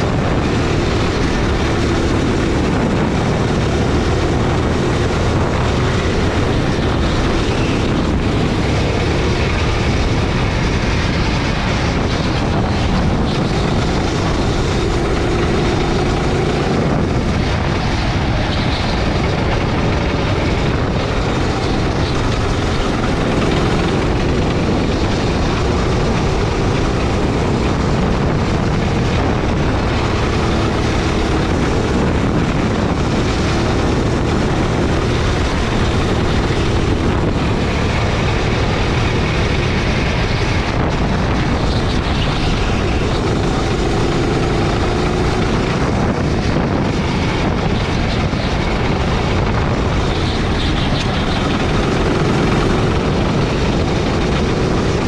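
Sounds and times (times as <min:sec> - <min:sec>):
kart engine revving: 0:00.0 - 0:55.0
steady rushing noise: 0:00.0 - 0:55.0.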